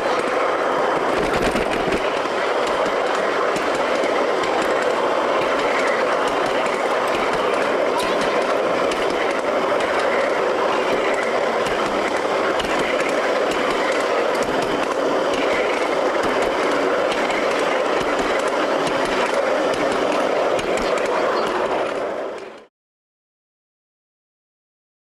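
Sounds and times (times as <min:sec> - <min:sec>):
miniature train rattling on track: 0:00.0 - 0:22.7
wheels clicking over rails: 0:00.0 - 0:22.7.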